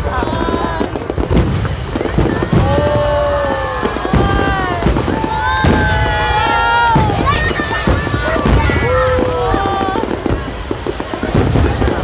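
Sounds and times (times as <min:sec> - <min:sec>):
fireworks bangs: 0:00.0 - 0:12.0
fireworks rumble and crackle: 0:00.0 - 0:12.0.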